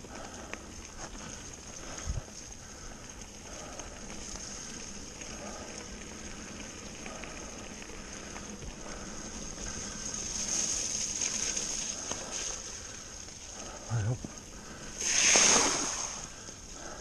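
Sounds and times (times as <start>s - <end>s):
bike tyres on dirt and leaves: 0.0s - 17.0s.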